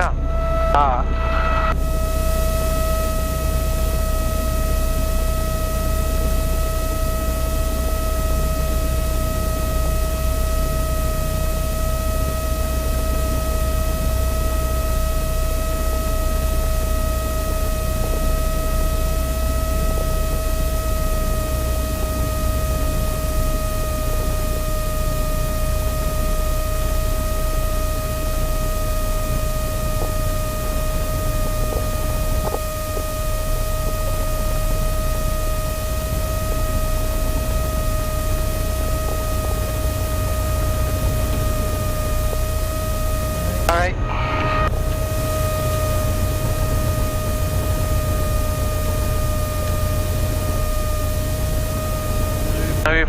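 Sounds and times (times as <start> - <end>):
airplane engine drone: 0.0 - 53.0
high whine: 0.0 - 53.0.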